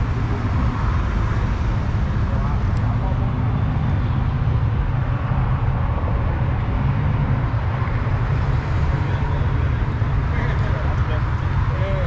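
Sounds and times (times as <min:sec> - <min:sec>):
pickup truck engine rumbling: 0:00.0 - 0:12.0.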